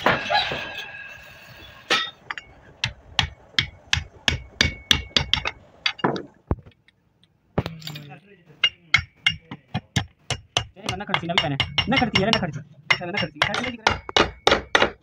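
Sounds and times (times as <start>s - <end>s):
hammer striking steel drift: 0.0s - 6.1s, 8.6s - 15.0s.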